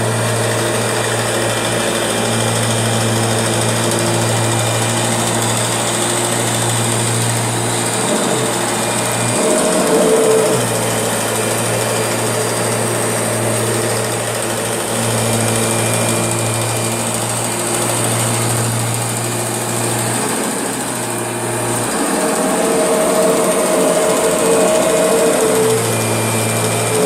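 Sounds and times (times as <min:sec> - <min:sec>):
low drone: 0:00.0 - 0:19.0, 0:19.6 - 0:27.0
vacuum cleaner motor whine: 0:00.0 - 0:27.0.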